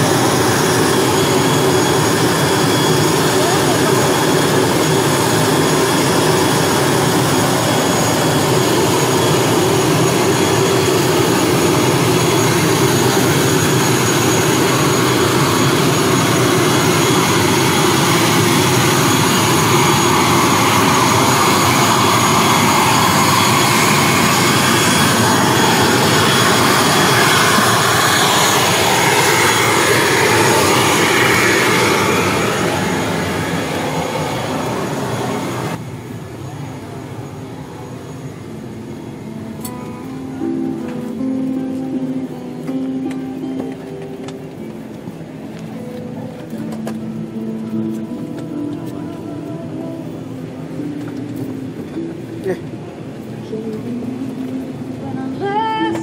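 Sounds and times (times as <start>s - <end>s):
turboprop engine roar with whine: 0.0s - 56.0s.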